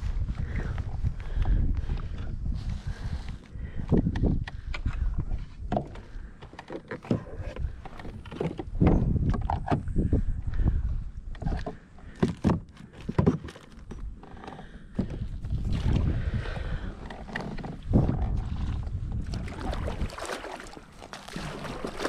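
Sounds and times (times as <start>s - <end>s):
knocks and scraping on plastic kayak: 2.0s - 10.2s, 11.3s - 22.0s.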